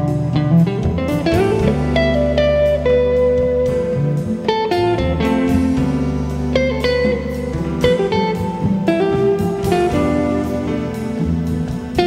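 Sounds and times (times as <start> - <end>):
jazz guitar melody: 0.0 - 12.0
low held chords: 0.0 - 12.0.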